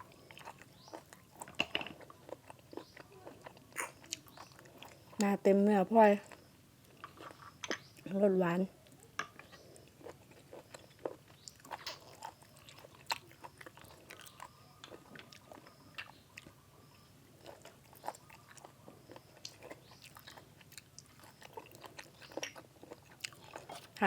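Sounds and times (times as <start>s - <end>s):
person chewing crunchy food: 0.0s - 5.2s, 6.2s - 8.1s, 8.8s - 24.0s.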